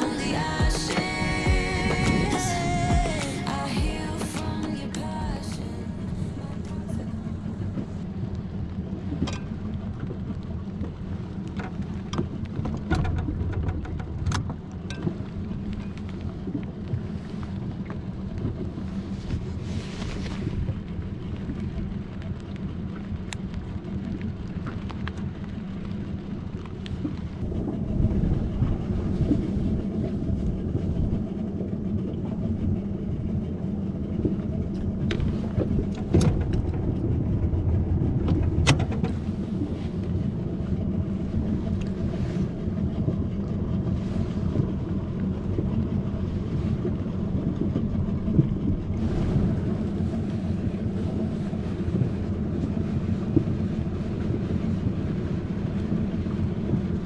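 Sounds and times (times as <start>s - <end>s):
steady low hum: 0.0s - 57.0s
wind rumbling on microphone: 0.0s - 57.0s.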